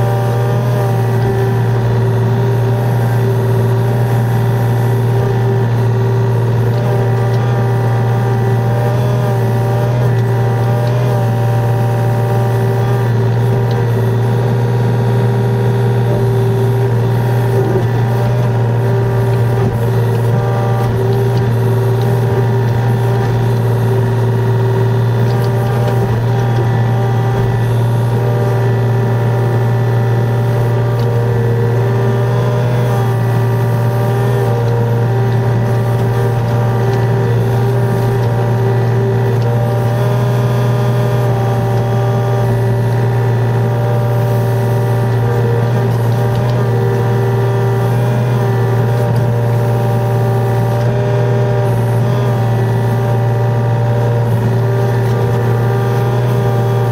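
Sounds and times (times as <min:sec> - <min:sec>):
excavator diesel engine humming: 0:00.0 - 0:56.9.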